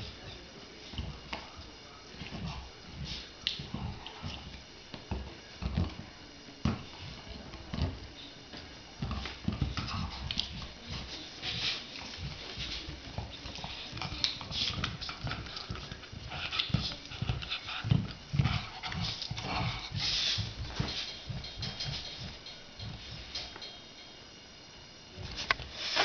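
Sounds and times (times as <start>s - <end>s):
soft thumps and rustling: 2.2s - 23.6s.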